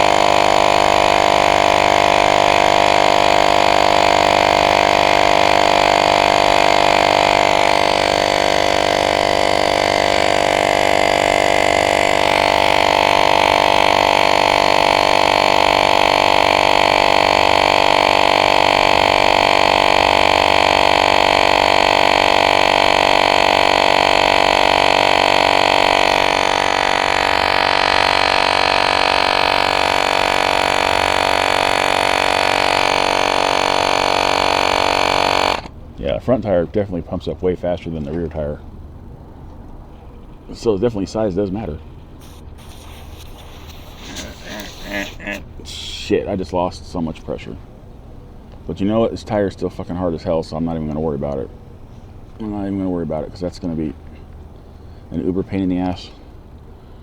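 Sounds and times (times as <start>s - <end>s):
air pump droning: 0.0s - 36.4s, 38.7s - 57.0s.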